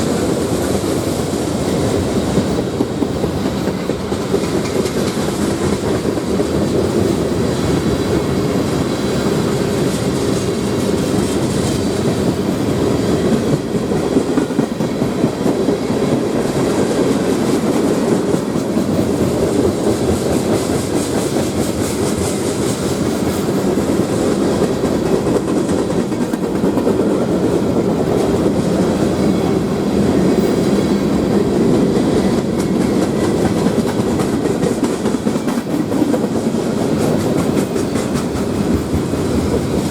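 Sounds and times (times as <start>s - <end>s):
freight train wheels clacking on rails: 0.0s - 39.9s.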